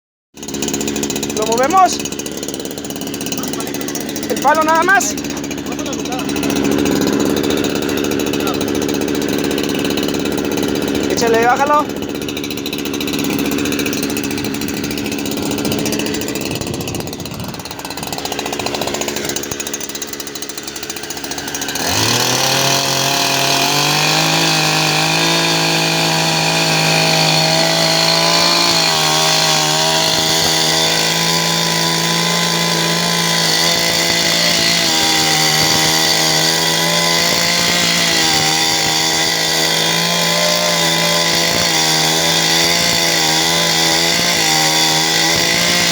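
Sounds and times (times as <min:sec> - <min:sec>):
chainsaw cutting through wood: 0:00.4 - 0:45.9
chainsaw idling and revving: 0:00.4 - 0:45.9.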